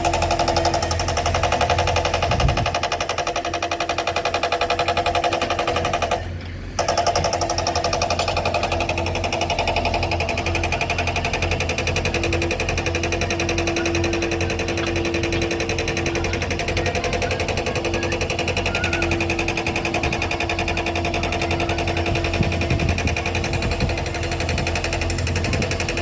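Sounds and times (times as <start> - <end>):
diesel engine clattering under load: 0.0 - 26.0
steady whine: 0.0 - 26.0.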